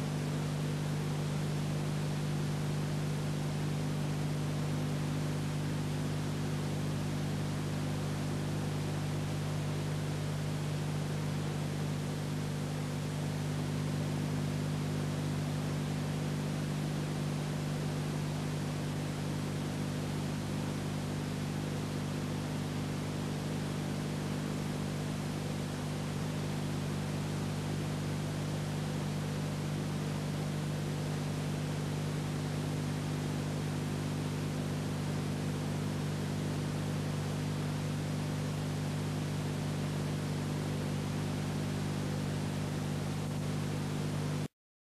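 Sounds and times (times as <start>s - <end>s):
low electrical hum: 0.0s - 44.5s
steady film hiss: 0.0s - 44.5s.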